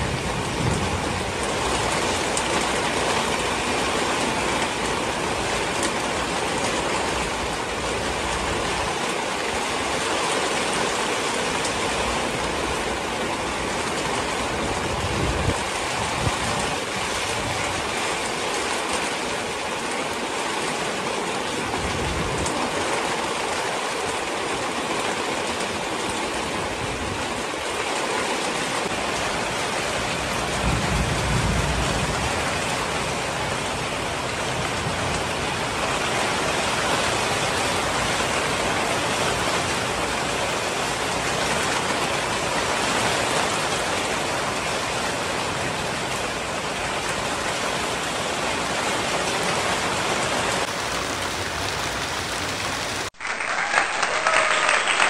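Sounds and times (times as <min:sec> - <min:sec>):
heavy rain on rooftops: 0:00.0 - 0:55.0.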